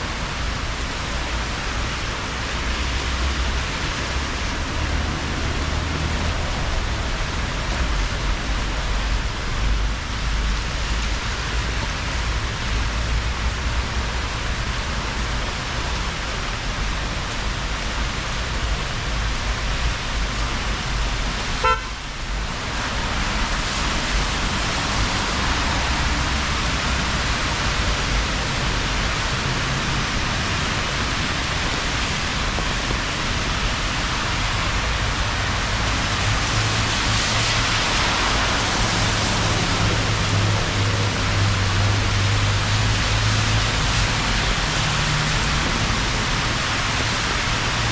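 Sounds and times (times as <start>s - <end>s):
rain hissing: 4.4s - 47.9s.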